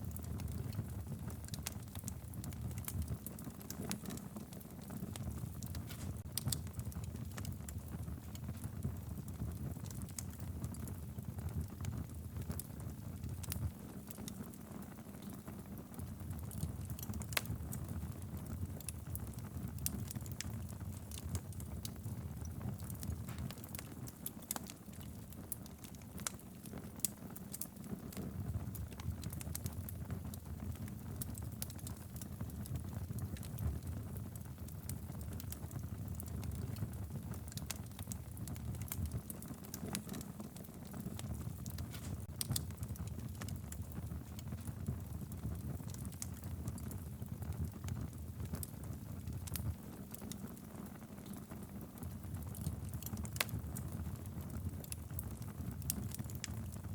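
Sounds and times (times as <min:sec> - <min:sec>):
logs crackling and popping: 0:00.0 - 0:56.9
low rumble of flames: 0:00.0 - 0:56.9.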